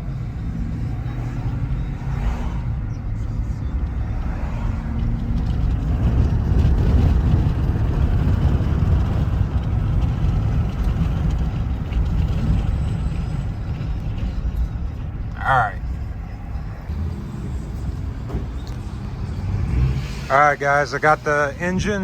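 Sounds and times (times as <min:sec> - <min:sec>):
truck engine and tyre rumble: 0:00.0 - 0:22.0.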